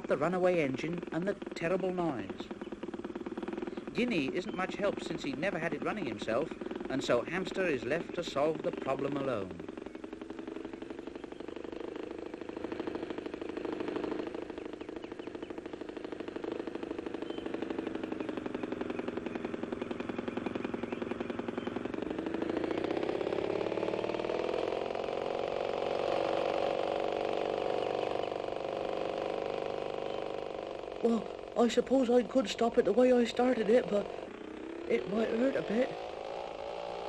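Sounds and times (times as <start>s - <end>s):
model aeroplane engine buzzing: 0.0s - 37.0s.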